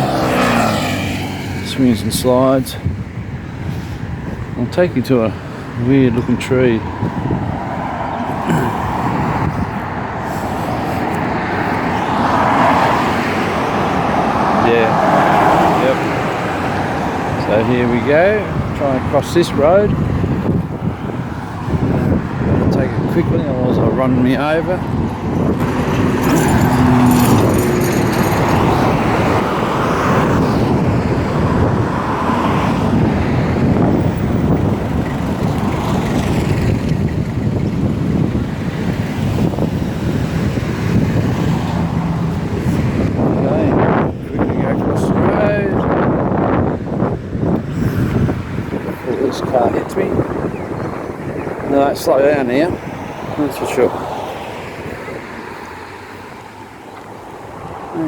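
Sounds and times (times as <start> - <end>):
vehicle passing close: 0.0 - 2.7, 5.8 - 58.0
road traffic going by: 0.0 - 58.0.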